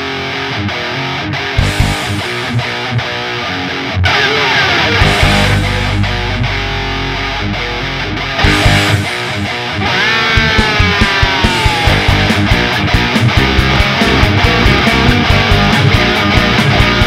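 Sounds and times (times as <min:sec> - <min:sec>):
hard rock music: 0:00.0 - 0:17.0.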